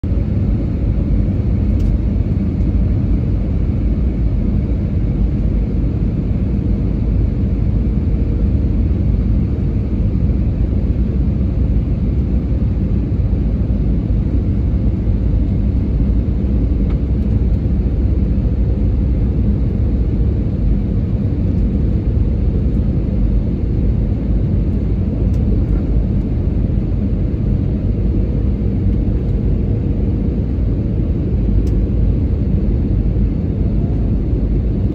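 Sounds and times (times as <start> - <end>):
airliner engines rumbling in cabin: 0.0 - 34.9.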